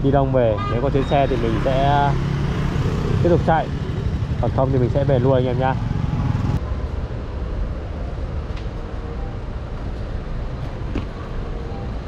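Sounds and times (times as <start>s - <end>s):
scooter engine and road rumble: 0.0s - 12.0s.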